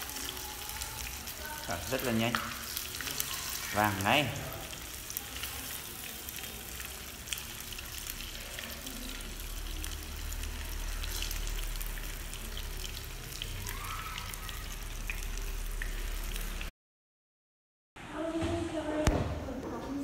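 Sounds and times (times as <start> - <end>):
meat sizzling in frying oil: 0.0 - 16.7.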